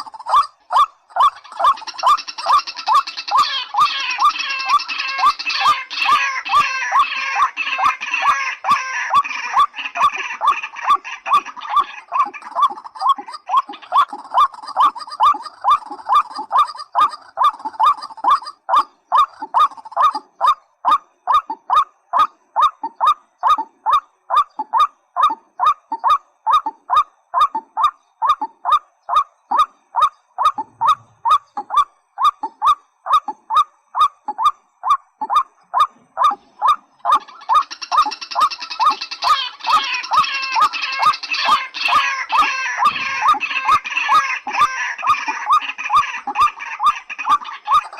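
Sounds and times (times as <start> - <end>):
rail bird calling: 0.0 - 47.9.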